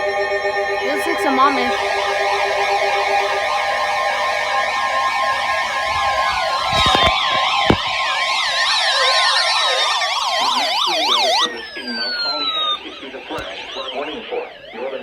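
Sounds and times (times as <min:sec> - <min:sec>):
sweeping siren tones: 0:00.0 - 0:15.0.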